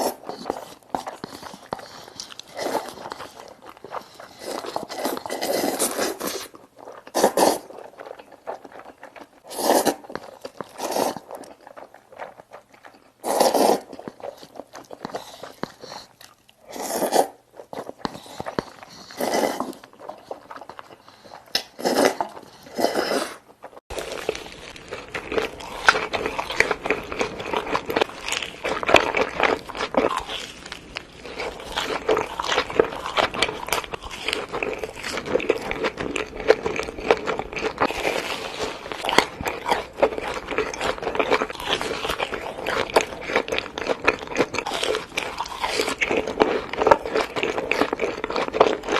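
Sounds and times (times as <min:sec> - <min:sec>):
crunchy eating and chewing: 0:00.0 - 0:48.9.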